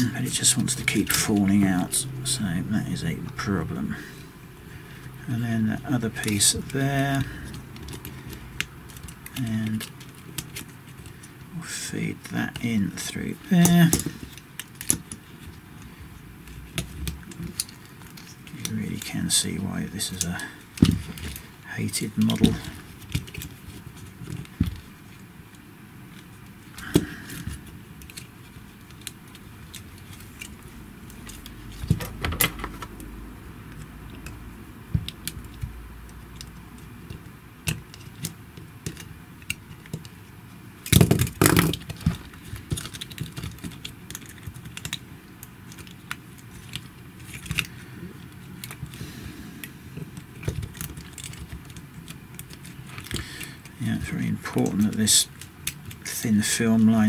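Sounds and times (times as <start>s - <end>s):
small parts clicking and rattling: 0.0s - 3.9s, 4.6s - 57.0s.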